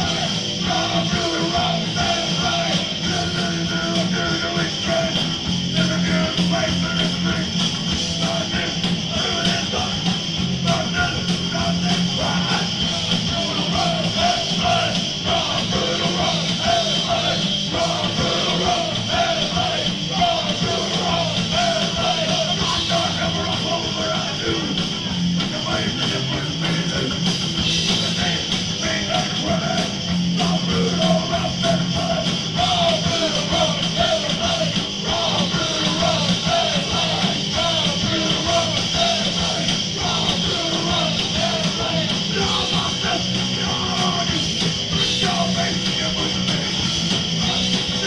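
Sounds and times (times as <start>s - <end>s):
punk rock band playing live: 0.0s - 48.0s.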